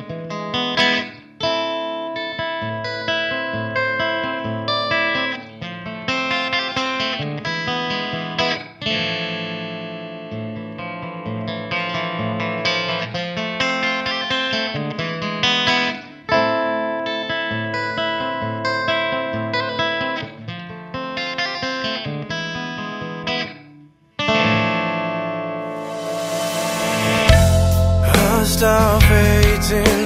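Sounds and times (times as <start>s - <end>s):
guitar picked notes: 0.0s - 30.0s.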